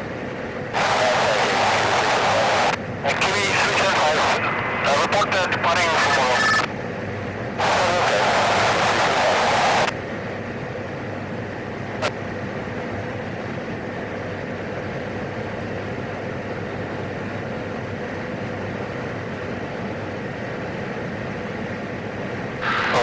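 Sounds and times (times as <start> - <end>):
turboprop engine drone: 0.0 - 23.0.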